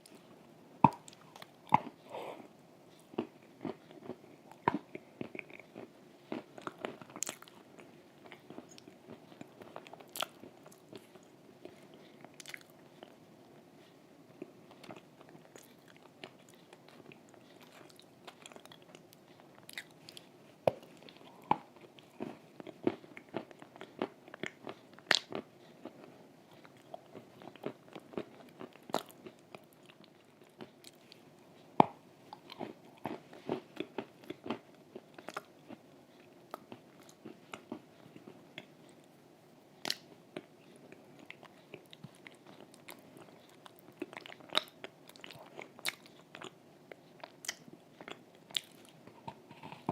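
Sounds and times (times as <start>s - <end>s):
crunchy chewing: 0.0s - 13.2s, 13.8s - 39.1s, 39.8s - 49.9s.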